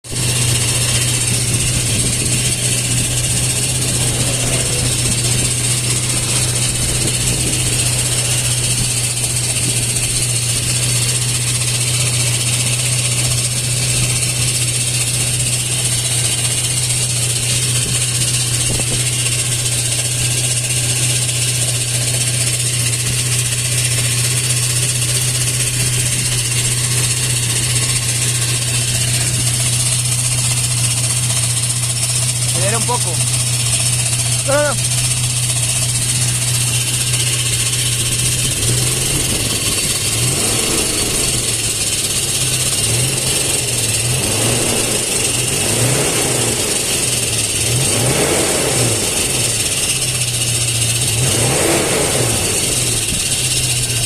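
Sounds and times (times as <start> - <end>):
car engine idling: 0.0 - 54.0
strange engine noise: 0.0 - 54.0.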